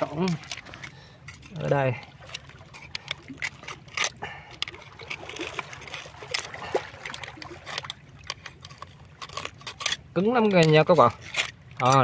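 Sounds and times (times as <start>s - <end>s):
clicks of shells and stones: 0.0s - 12.0s
water lapping among rocks: 0.0s - 12.0s.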